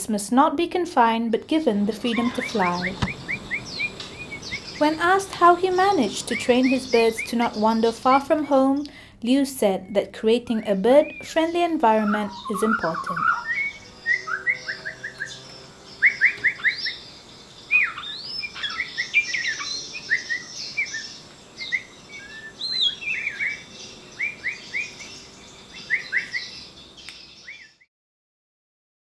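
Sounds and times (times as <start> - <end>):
small birds chirping: 1.0 - 27.9.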